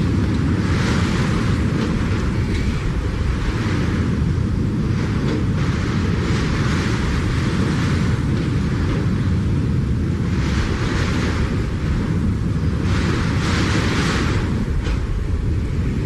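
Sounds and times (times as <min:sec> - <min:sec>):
strong gusting wind: 0:00.0 - 0:16.0.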